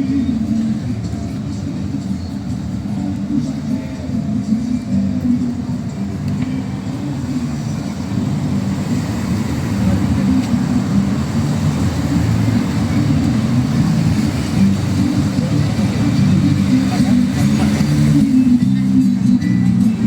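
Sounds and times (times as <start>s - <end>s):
road traffic rumble: 0.0s - 20.0s
voices of passers-by: 0.0s - 20.0s.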